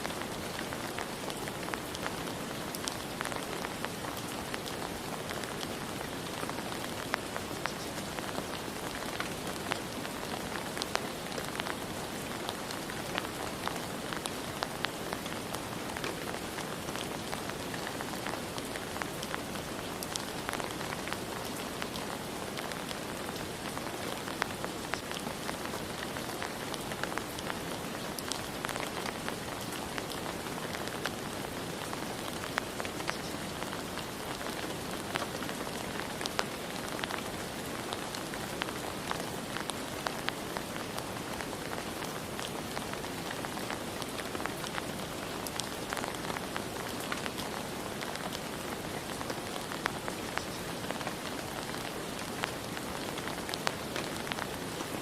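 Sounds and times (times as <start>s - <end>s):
raindrops ticking on a surface: 0.0s - 55.0s
steady rain falling: 0.0s - 55.0s.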